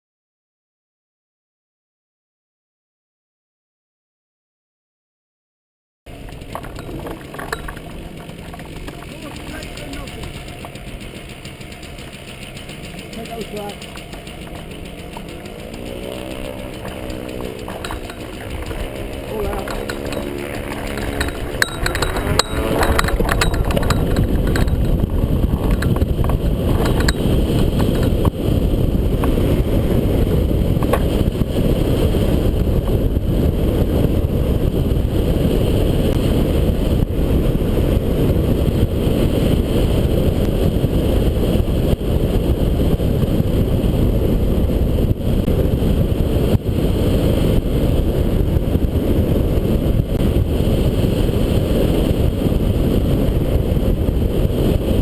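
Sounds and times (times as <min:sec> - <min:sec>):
aircraft engine drone: 0:06.1 - 0:55.0
wind buffeting microphone: 0:06.1 - 0:55.0.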